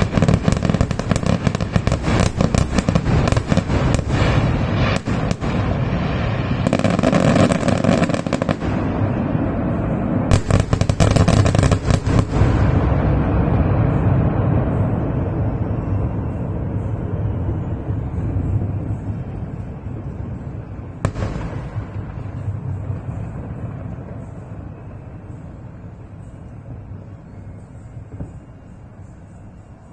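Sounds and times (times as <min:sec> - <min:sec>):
fireworks bangs and crackling: 0:00.0 - 0:29.9
fireworks rumble: 0:00.0 - 0:29.9.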